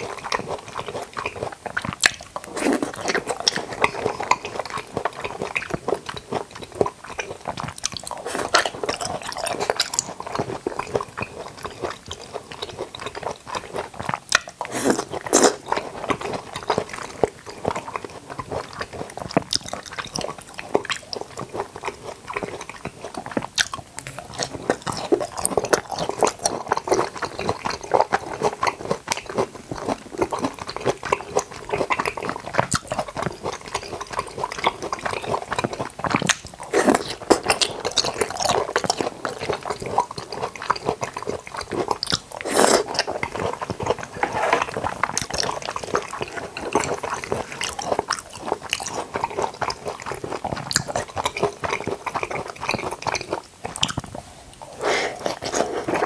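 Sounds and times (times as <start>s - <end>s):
wet chewing mouth clicks: 0.0s - 56.0s.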